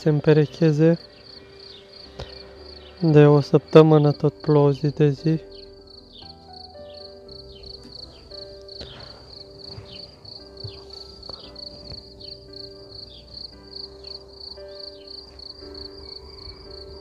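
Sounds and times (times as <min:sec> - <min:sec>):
soft background music: 0:00.0 - 0:17.0
cricket chirping: 0:00.9 - 0:04.6, 0:05.4 - 0:17.0.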